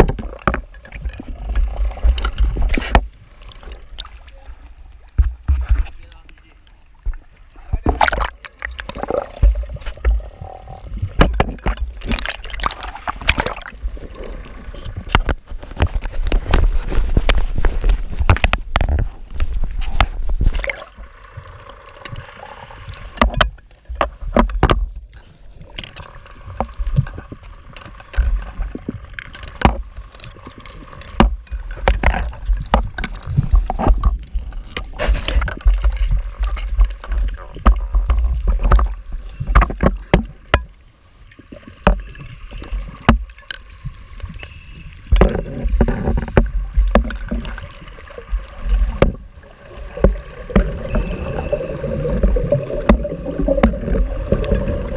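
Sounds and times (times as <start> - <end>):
regulator bubbles rumbling underwater: 0.0 - 5.9, 6.9 - 40.8, 41.4 - 54.9.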